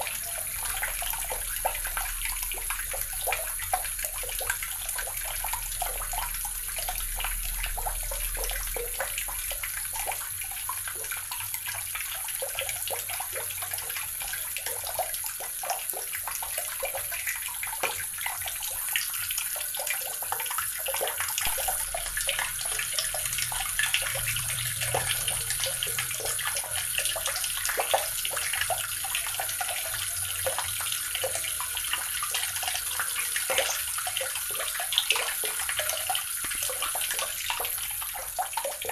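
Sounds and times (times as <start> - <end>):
water running from tap: 0.0 - 38.9.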